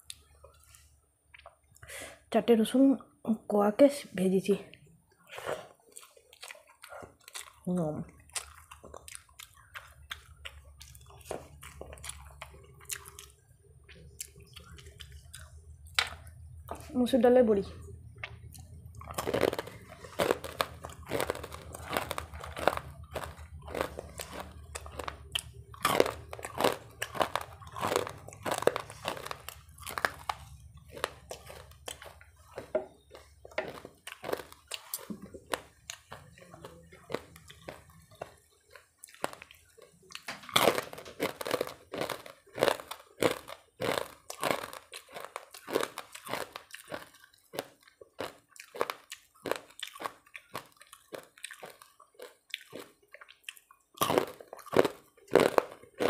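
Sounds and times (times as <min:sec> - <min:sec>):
crunching and chewing: 0:00.0 - 0:01.8, 0:04.7 - 0:16.9, 0:17.8 - 0:56.0
faint low hum: 0:00.0 - 0:56.0.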